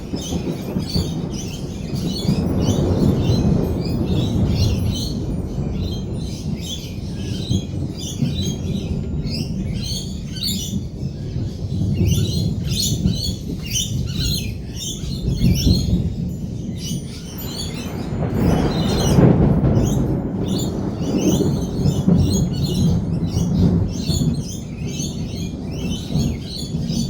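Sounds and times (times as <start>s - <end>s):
lorikeets chattering and screeching: 0.0s - 27.0s
rolling thunder: 0.0s - 27.0s.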